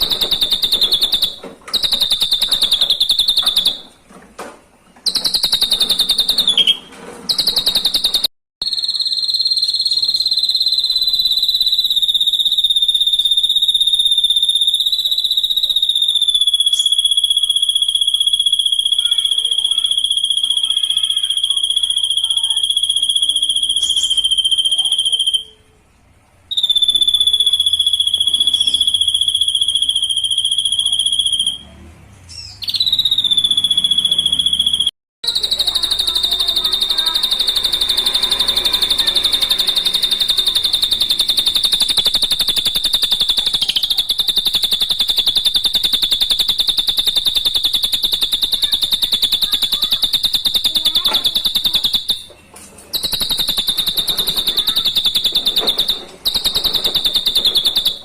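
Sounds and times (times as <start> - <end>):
bird giving high pulsed trill: 0.0 - 4.0, 5.1 - 25.7, 26.5 - 31.6, 32.5 - 52.3, 52.9 - 58.0.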